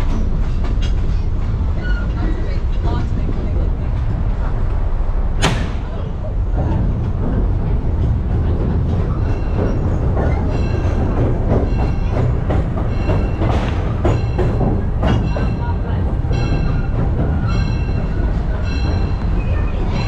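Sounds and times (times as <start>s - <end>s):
train car rumbling on track: 0.0s - 20.0s
wheels clicking over rail joints: 0.0s - 20.0s.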